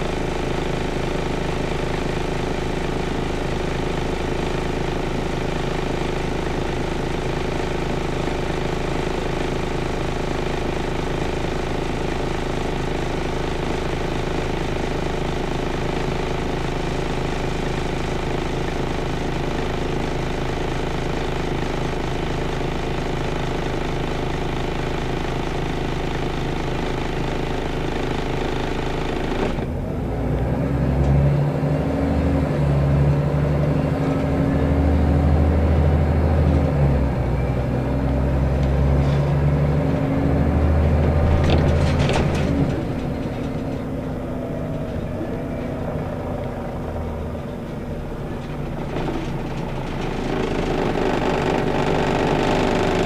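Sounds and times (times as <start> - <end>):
bus engine idling: 0.0 - 53.0.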